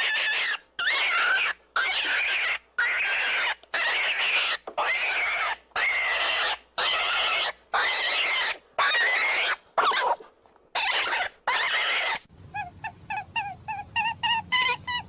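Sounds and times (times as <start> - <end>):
animal squealing harshly: 0.0 - 15.0.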